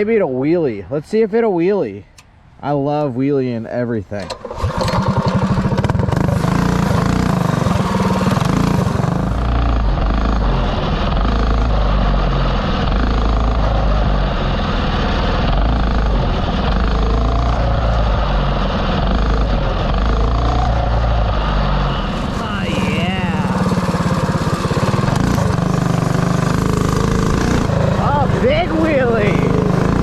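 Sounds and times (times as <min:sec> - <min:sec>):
mini bike engine revving: 0:04.2 - 0:30.0.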